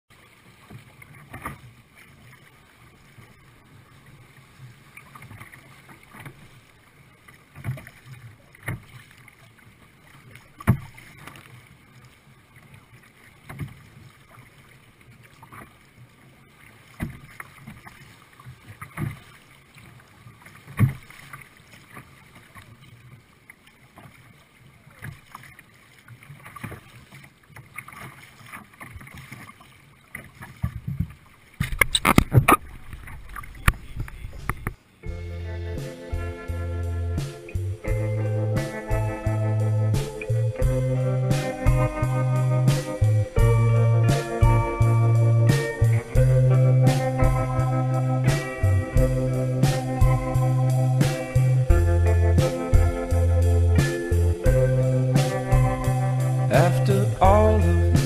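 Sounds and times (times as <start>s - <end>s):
waves slapping against boat: 0.1s - 35.0s, 37.1s - 58.0s
water sloshing along hull: 0.1s - 58.0s.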